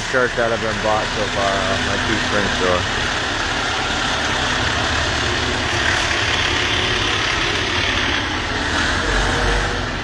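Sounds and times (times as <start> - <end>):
heavy vehicle engine idling: 0.0 - 10.0.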